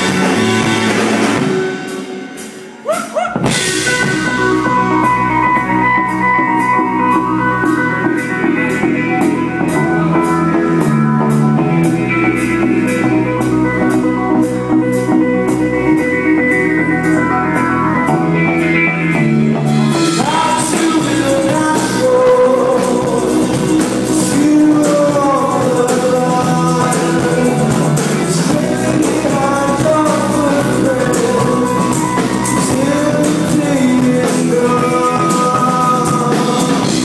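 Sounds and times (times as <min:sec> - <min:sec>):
drum kit beat: 0:00.0 - 0:37.0
electric guitar: 0:00.0 - 0:37.0
keyboards: 0:00.0 - 0:37.0.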